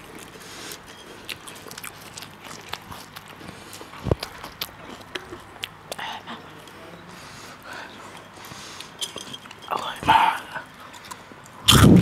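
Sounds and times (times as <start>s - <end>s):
person chewing crunchy snack: 0.0s - 6.7s, 8.0s - 12.0s.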